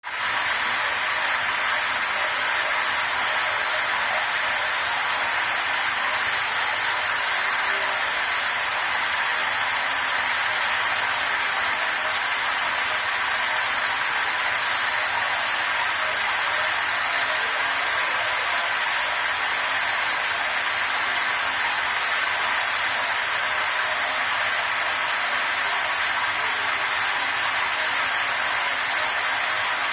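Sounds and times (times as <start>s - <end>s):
shower water spray hissing: 0.1s - 29.9s.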